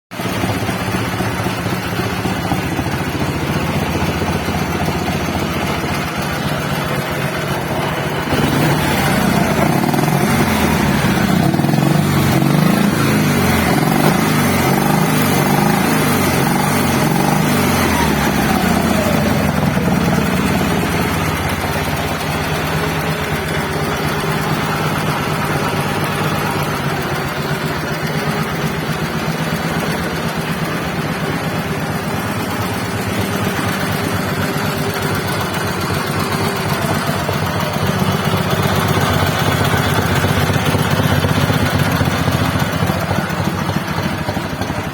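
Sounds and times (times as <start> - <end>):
motorcycle engine running and revving: 0.1 - 44.9.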